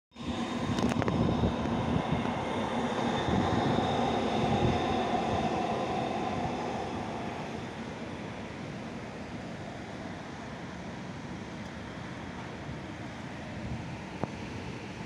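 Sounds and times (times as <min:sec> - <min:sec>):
city traffic rumble: 0:00.2 - 0:15.0.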